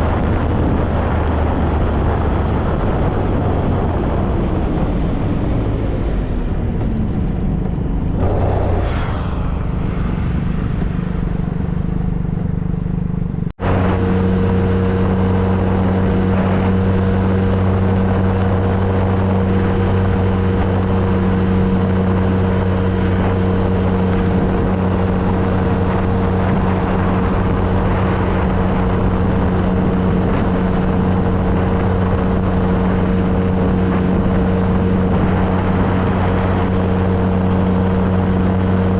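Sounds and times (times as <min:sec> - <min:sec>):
motorcycle engine drone: 0:00.0 - 0:38.9
wind and road noise: 0:00.0 - 0:38.9.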